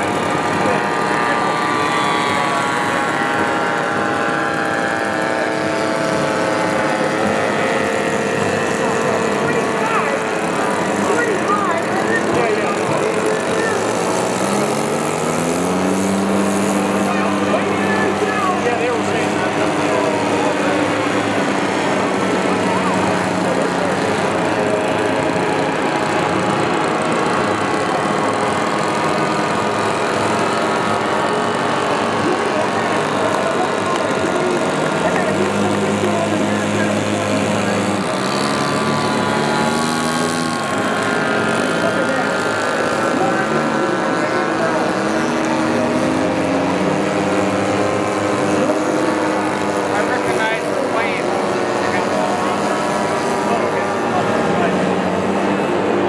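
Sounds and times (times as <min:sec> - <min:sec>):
model airplane engines: 0:00.0 - 0:56.0.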